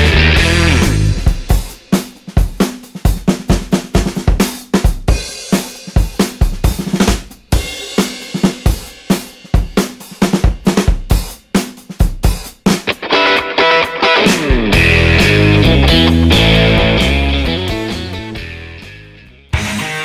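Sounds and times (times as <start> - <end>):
fast drum-kit beat: 0.0 - 20.0.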